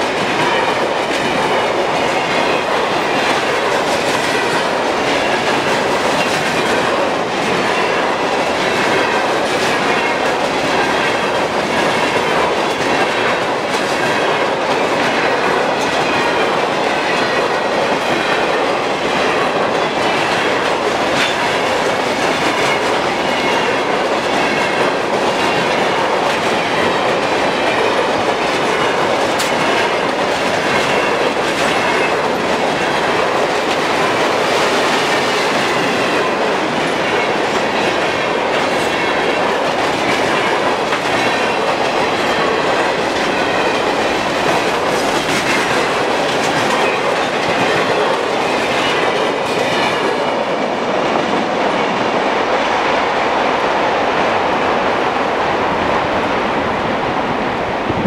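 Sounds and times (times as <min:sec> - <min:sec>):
clickety-clack over rail joints: 0:00.0 - 0:54.3
train wheels rumbling on rail: 0:00.0 - 0:58.0.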